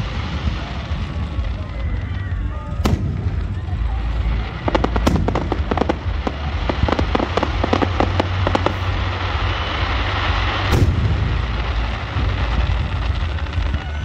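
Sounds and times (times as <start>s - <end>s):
firework bangs and crackling: 0.0s - 14.0s.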